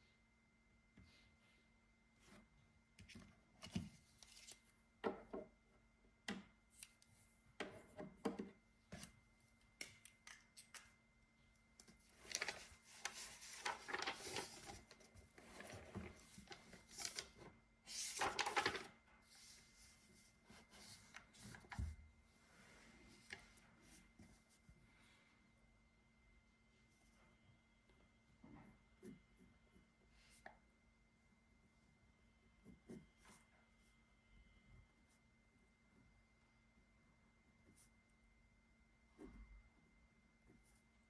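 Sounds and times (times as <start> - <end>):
faint electrical hum: 0.0 - 41.0.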